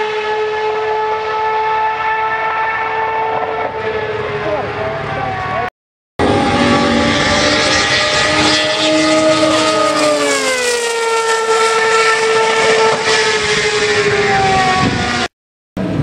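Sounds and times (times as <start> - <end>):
racing car engine howl passing by: 0.0 - 15.3.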